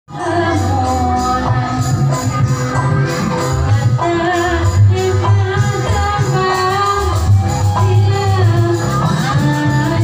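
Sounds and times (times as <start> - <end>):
woman singing: 0.1 - 2.4, 3.7 - 10.0
amplified band with drums: 0.1 - 10.0.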